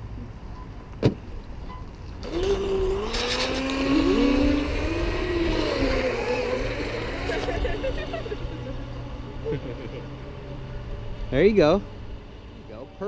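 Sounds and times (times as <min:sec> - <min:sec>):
electric motor whining: 0:02.2 - 0:13.0.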